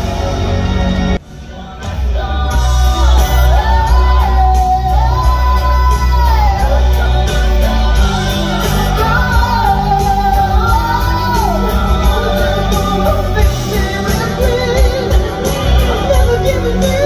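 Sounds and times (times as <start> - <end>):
low bass notes: 0.0 - 17.0.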